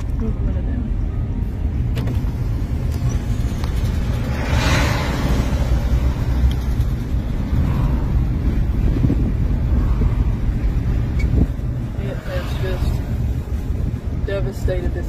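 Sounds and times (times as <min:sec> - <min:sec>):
vehicle driving rumble: 0:00.0 - 0:15.0.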